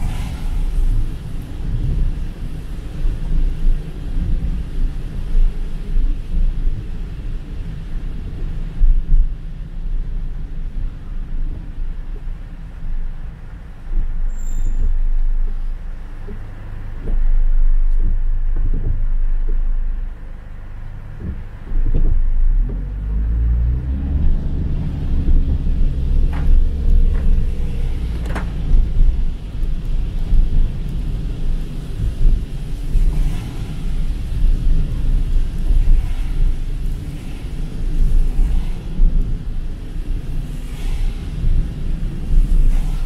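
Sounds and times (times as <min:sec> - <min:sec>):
car engine and road rumble: 0:00.0 - 0:43.0
rain on car: 0:00.0 - 0:43.0
tyres on wet road: 0:00.0 - 0:43.0.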